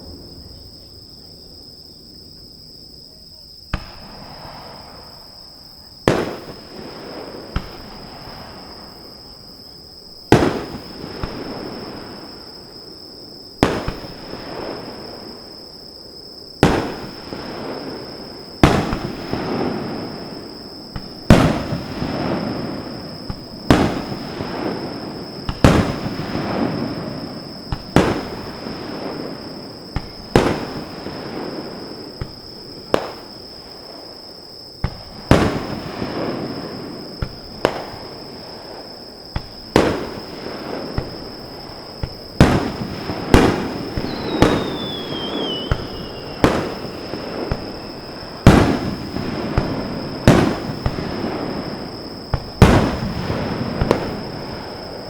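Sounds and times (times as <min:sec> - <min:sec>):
falling firework whistle: 0:03.1 - 0:55.0
fireworks bursting with echo: 0:03.6 - 0:55.0.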